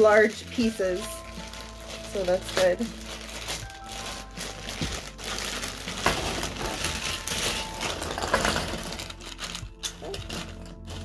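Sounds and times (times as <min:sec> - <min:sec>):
plastic bag crinkling: 0:00.0 - 0:11.0
puzzle pieces rustling: 0:00.0 - 0:11.0.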